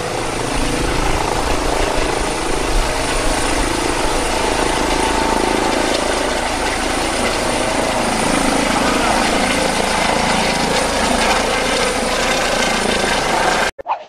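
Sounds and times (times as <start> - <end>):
helicopter hovering overhead: 0.0 - 13.8.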